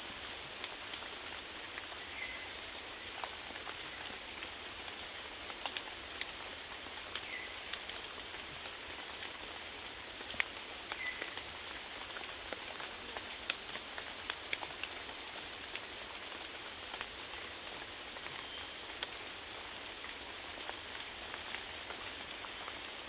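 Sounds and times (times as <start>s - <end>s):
steady rainfall hiss: 0.0s - 23.0s
raindrops ticking on a surface: 0.1s - 23.0s.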